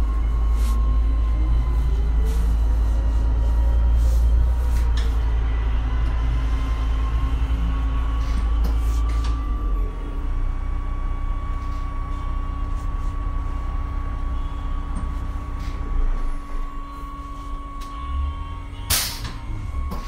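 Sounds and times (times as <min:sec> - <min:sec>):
bus engine whine and rumble: 0:00.0 - 0:20.0.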